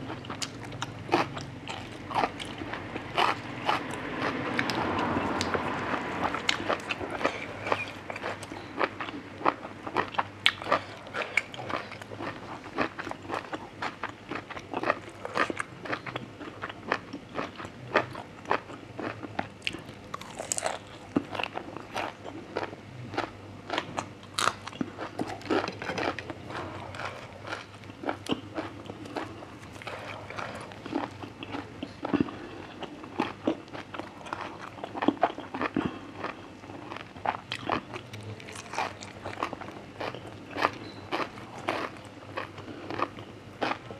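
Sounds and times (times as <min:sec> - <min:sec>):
chewing and crunching: 0:00.0 - 0:43.9.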